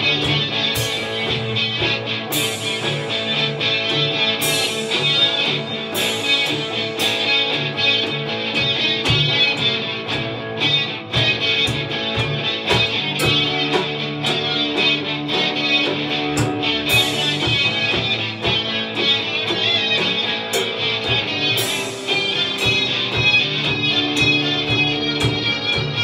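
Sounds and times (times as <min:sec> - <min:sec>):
drum beat: 0:00.0 - 0:26.0
electric guitars playing rock: 0:00.0 - 0:26.0.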